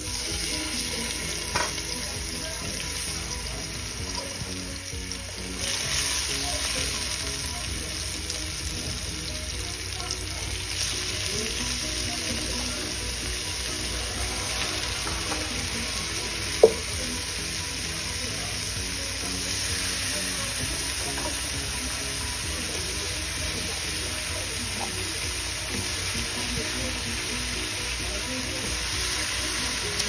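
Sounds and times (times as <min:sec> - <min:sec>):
meat sizzling in a frying pan: 0:00.0 - 0:30.0.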